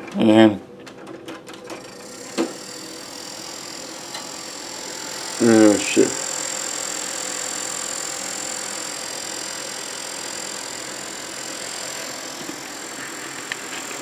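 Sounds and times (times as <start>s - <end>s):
computer fans whirring: 1.4s - 14.0s.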